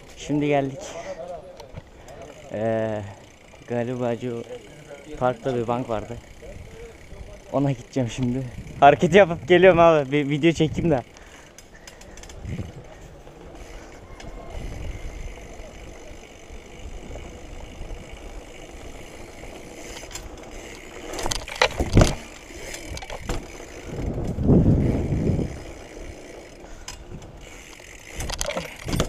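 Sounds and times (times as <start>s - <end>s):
bike rolling over flagstones: 0.0s - 29.0s.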